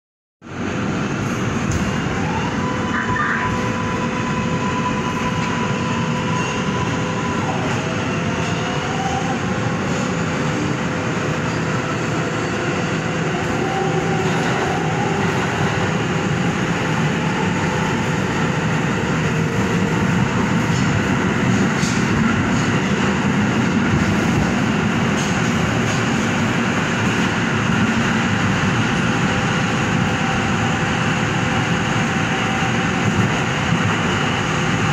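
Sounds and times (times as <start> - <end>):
subway wheels rumbling on rail: 0.4 - 34.9.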